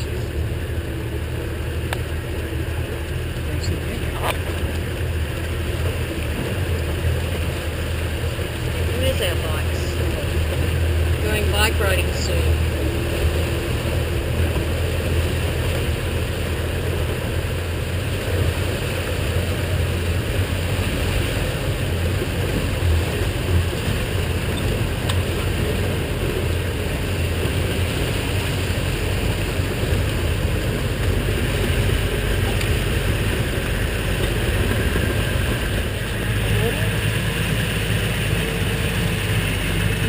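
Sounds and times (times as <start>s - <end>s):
road or water noise: 0.0s - 40.0s
vehicle engine humming: 0.0s - 40.0s.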